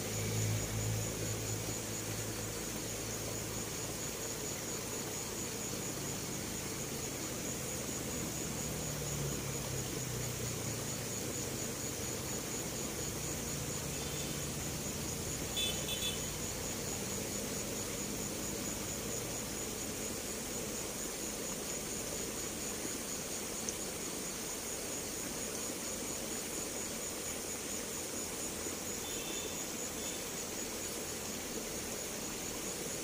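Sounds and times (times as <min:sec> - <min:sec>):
high pulsing hiss: 0:00.0 - 0:33.0.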